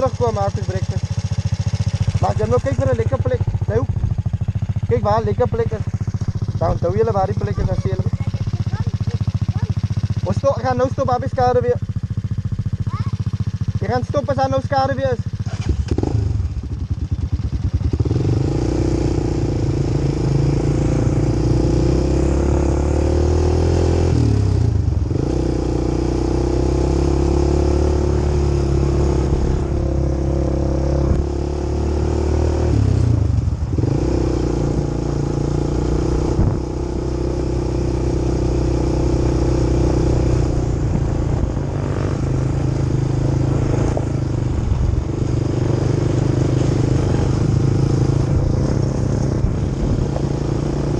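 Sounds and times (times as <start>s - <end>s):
quad bike engine running: 0.0s - 50.9s.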